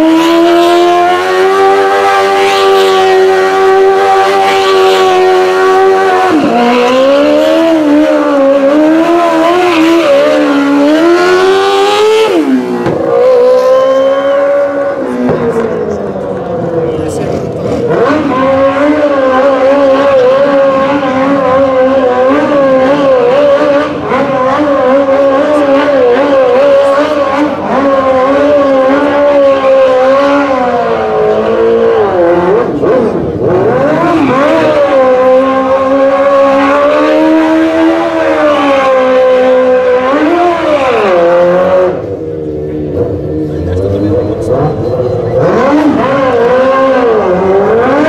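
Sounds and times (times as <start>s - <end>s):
quad engine revving: 0.0s - 48.0s.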